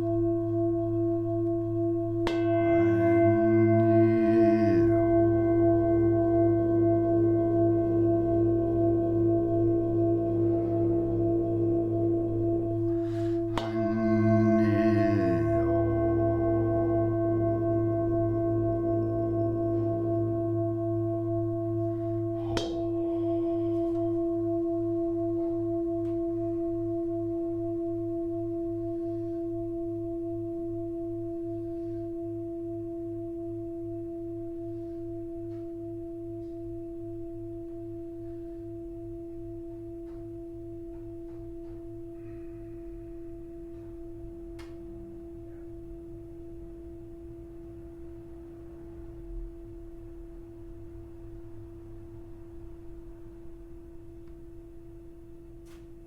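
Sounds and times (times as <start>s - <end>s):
singing bowl ringing: 0.0s - 47.4s.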